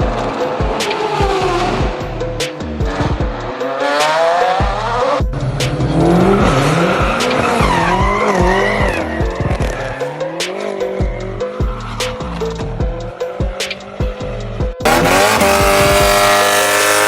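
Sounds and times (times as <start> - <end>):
music with heavy bass beat: 0.0 - 17.0
car tires squealing: 2.9 - 17.0.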